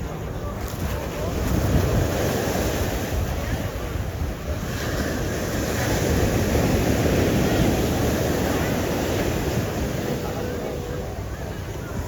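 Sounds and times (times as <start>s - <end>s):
wind rumbling on microphone: 0.0s - 12.0s
ocean surf washing onto beach: 0.2s - 12.0s.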